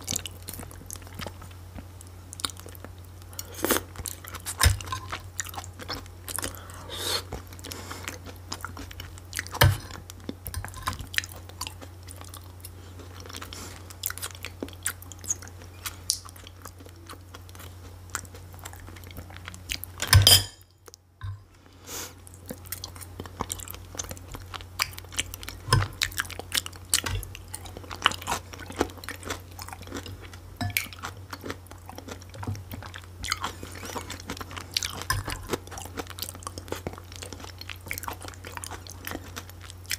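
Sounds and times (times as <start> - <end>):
chewing and wet mouth sounds: 0.0 - 20.2, 22.2 - 39.9
steady low hum: 0.0 - 39.9.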